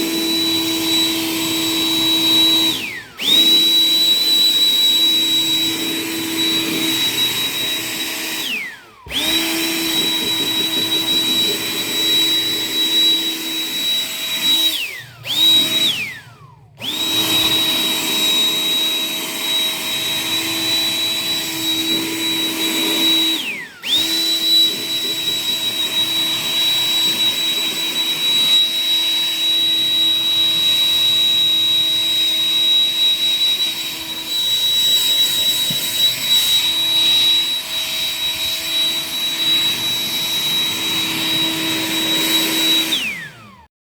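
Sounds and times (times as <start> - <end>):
electric motor whining: 0.0 - 43.6.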